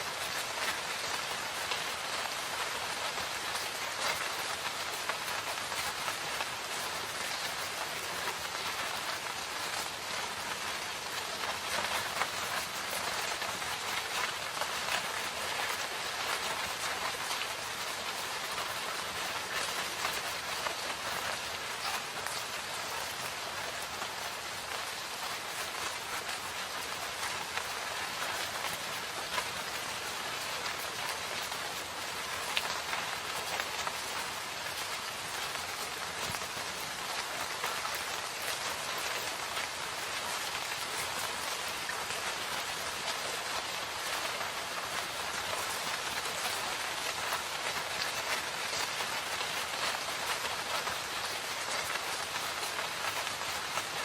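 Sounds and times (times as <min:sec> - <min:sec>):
rain falling in a forest: 0:00.0 - 0:54.0.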